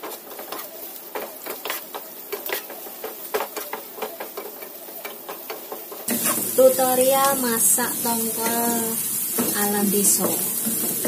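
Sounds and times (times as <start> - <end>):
oil sizzling: 0.0 - 11.0
spatula scraping frying pan: 0.0 - 11.0.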